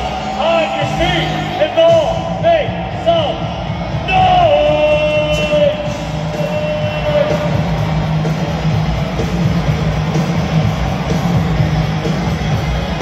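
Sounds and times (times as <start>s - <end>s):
rock music with electric guitar: 0.0s - 13.0s.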